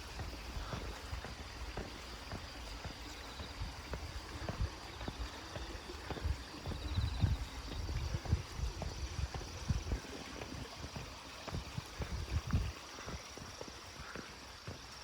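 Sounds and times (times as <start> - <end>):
footsteps on a path: 0.0 - 15.0.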